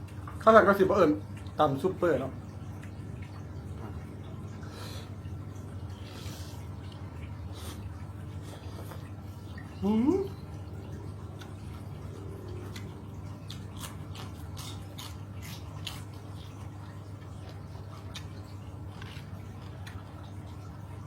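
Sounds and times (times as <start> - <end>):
steady low hum: 0.0 - 21.0
wet chewing sounds: 2.3 - 21.0.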